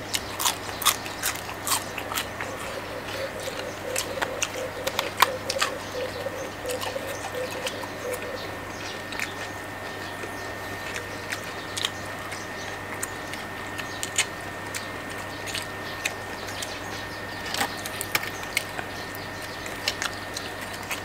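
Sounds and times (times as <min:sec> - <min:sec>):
people crunching crisp food: 0:00.0 - 0:21.0.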